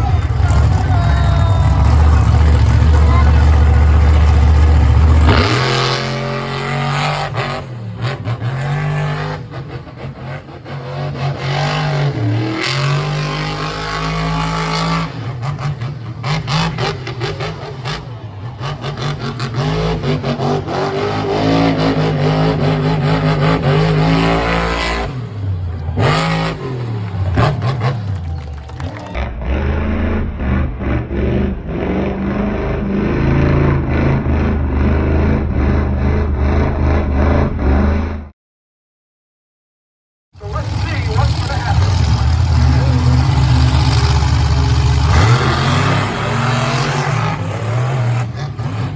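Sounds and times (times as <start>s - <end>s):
truck engine revving hard: 0.0s - 38.3s, 40.4s - 48.9s.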